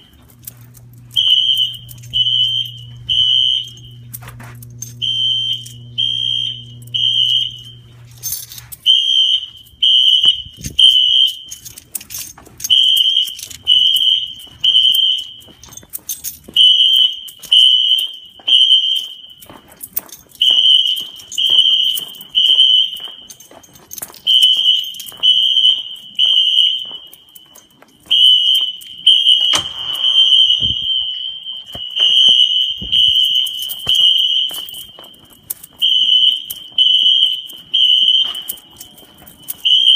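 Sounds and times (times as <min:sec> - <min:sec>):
fire alarm horn beeps: 0:00.0 - 0:23.5, 0:24.2 - 0:39.9
faint footsteps: 0:00.0 - 0:39.9.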